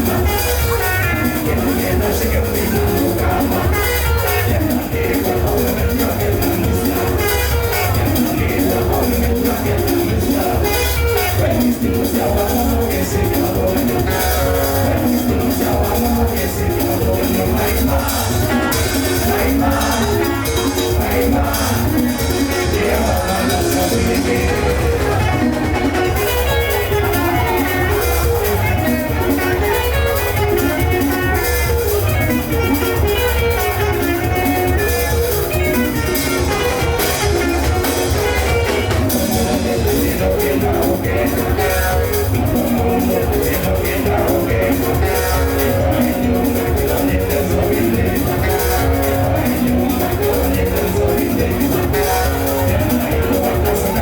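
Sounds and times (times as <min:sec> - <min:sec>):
live band music: 0:00.0 - 0:54.0
steady bass line: 0:00.0 - 0:54.0.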